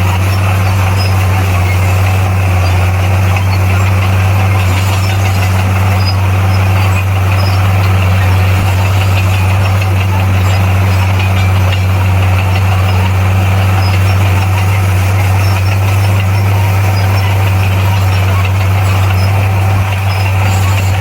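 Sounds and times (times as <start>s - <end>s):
bulldozer diesel engine running: 0.0s - 21.0s
mechanical clatter: 0.0s - 21.0s.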